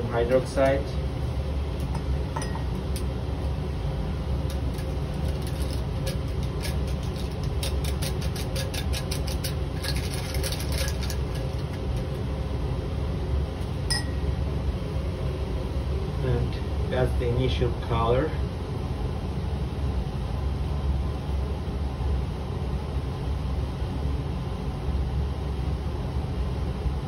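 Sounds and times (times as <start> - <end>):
fume hood fan hum: 0.0 - 27.0.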